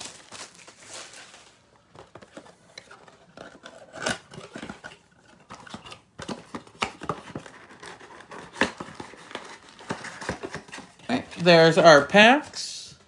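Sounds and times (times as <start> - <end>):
cardboard box and foil packs rustling: 0.0 - 12.6.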